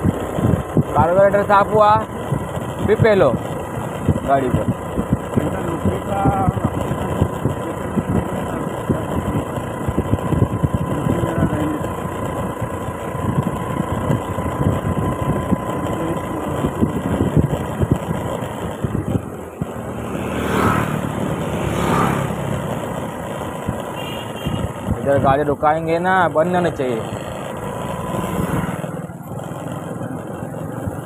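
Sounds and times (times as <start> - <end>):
wind rumbling on microphone: 0.0 - 25.4
scooter engine running: 0.0 - 31.0.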